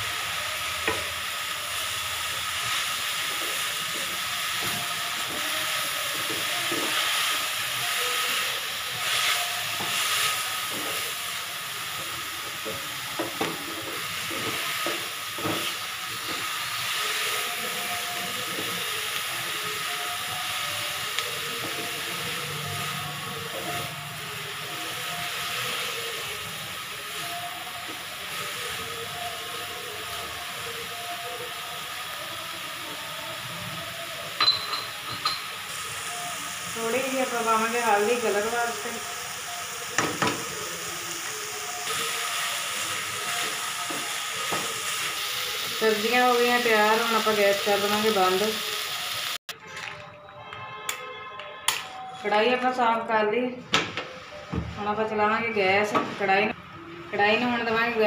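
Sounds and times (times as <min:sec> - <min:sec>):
vegetables sizzling in a pan: 0:00.0 - 0:49.4.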